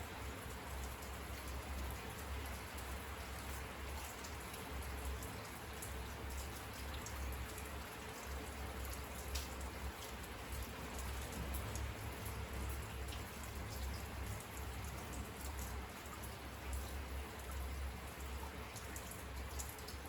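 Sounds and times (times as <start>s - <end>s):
rain falling: 0.0s - 20.0s
raindrops ticking: 0.4s - 20.0s.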